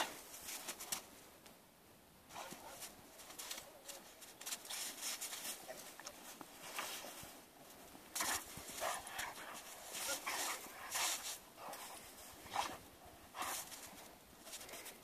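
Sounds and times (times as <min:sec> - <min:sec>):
snow crunching and scraping: 0:02.4 - 0:14.9.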